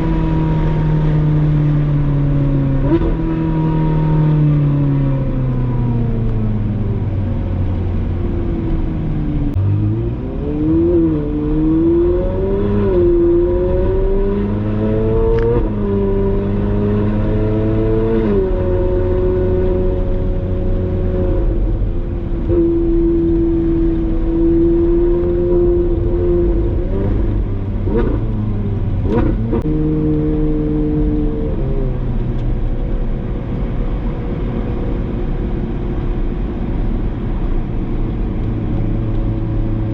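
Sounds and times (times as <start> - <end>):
car engine upshifting: 0.0 - 39.9.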